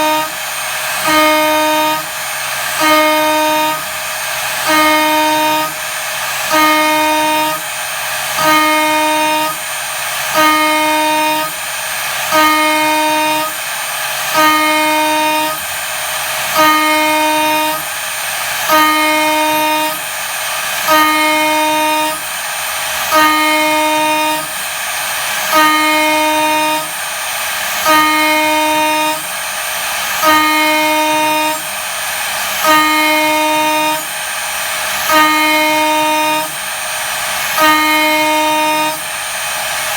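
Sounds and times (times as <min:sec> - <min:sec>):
end mill cutting metal whine: 0:00.0 - 0:39.9.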